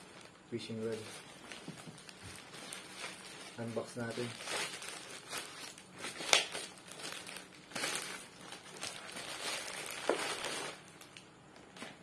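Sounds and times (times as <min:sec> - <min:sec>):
plastic pouch crinkling: 0:00.0 - 0:11.3
sharp plastic crackle: 0:00.0 - 0:12.0.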